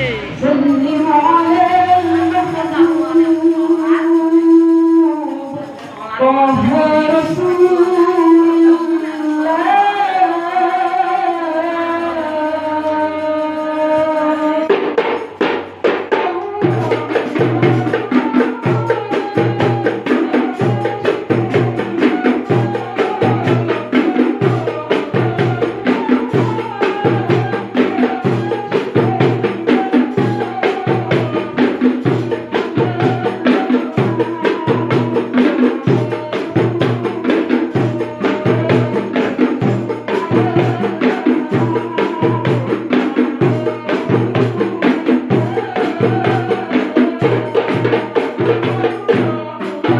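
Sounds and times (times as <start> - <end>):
hand drums playing: 0.0 - 49.9.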